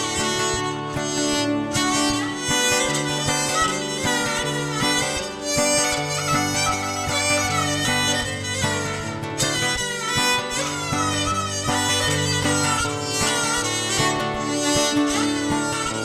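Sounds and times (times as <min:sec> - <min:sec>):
reedy wind instrument melody: 0:00.0 - 0:16.0
strings: 0:00.0 - 0:16.0.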